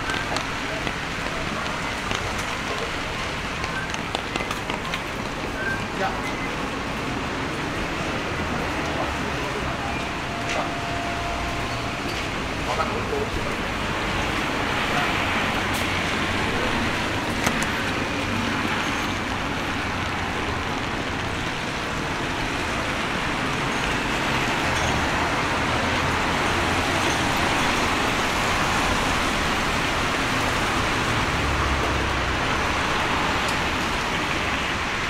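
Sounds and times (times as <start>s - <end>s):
traffic on wet street: 0.0s - 35.0s.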